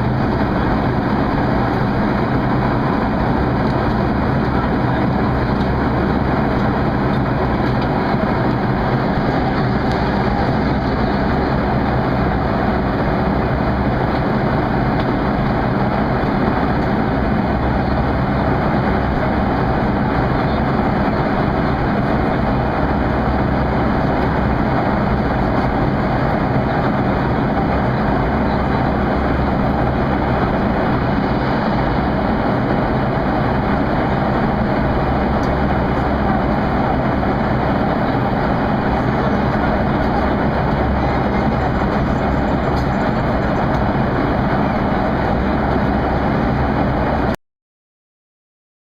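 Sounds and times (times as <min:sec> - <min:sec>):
jet engine cabin noise: 0:00.0 - 0:47.4.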